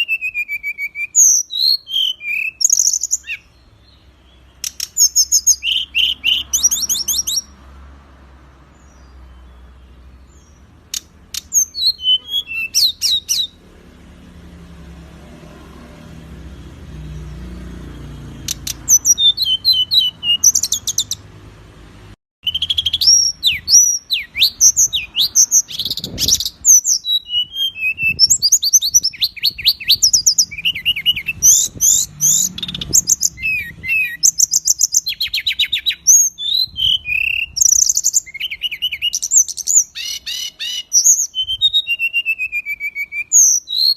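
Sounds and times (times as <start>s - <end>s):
songbirds chattering and trilling: 0.0s - 7.8s, 8.4s - 13.6s, 16.9s - 21.3s, 22.4s - 43.9s.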